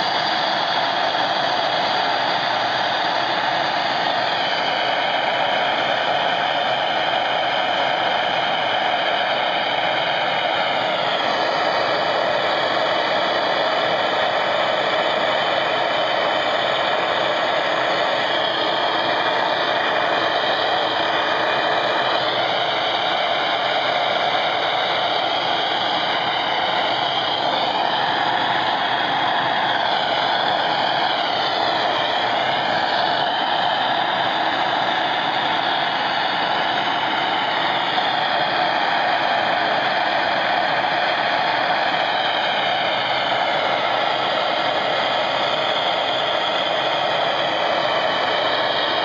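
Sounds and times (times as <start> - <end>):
blowtorch flame hissing: 0.0 - 49.0.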